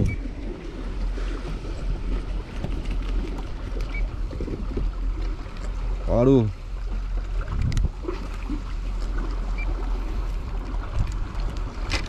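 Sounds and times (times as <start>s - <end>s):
water lapping around kayak: 0.0s - 12.0s
wind rumble on microphone: 0.0s - 12.0s.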